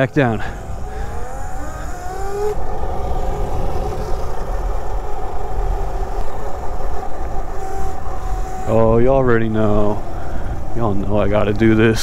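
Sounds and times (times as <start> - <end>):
electric minibike motor whine: 0.0 - 12.0
wind rumble on microphone: 0.0 - 12.0.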